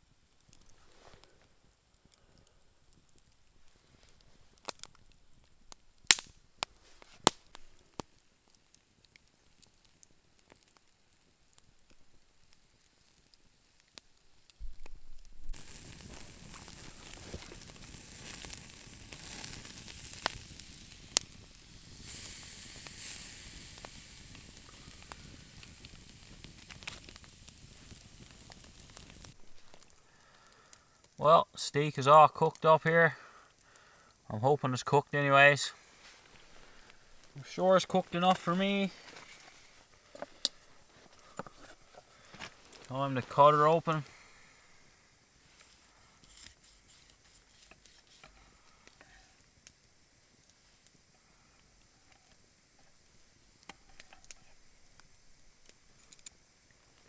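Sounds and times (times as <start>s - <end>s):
campfire crackling and popping: 0.0s - 57.0s
steak sizzling over fire: 0.0s - 57.0s.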